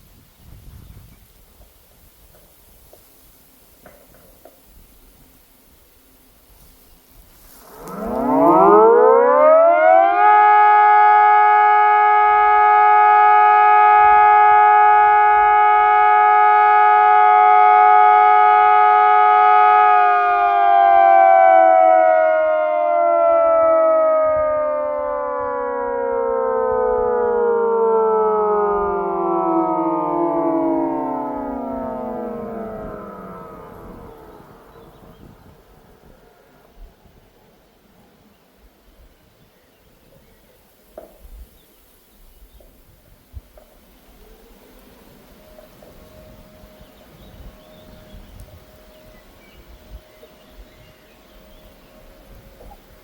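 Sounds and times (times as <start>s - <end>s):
civil defence siren tones: 2.3s - 40.3s, 42.1s - 53.0s.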